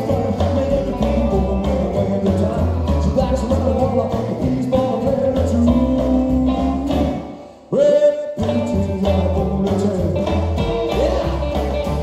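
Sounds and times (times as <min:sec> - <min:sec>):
man singing lead vocals: 0:00.0 - 0:12.0
rockabilly band playing: 0:00.0 - 0:12.0.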